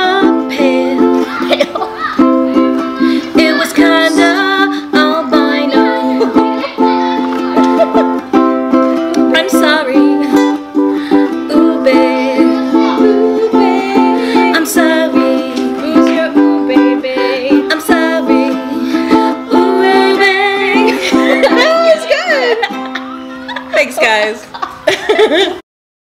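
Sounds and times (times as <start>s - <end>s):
ukulele strumming chords: 0.0s - 24.4s.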